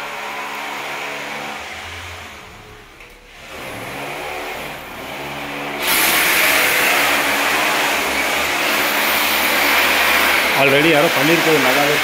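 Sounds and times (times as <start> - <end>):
electric drill running: 0.0 - 12.0
rough drilling into floor: 0.0 - 12.0.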